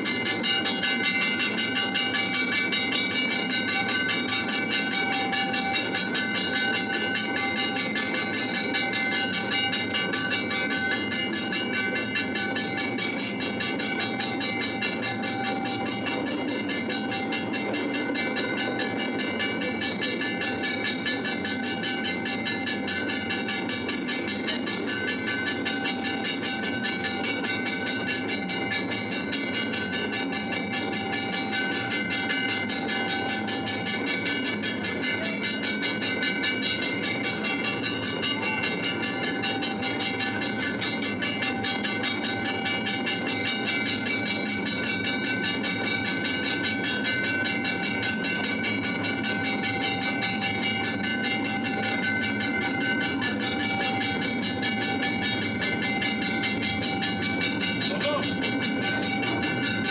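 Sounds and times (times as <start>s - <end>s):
bells and percussion clanging: 0.0s - 59.9s.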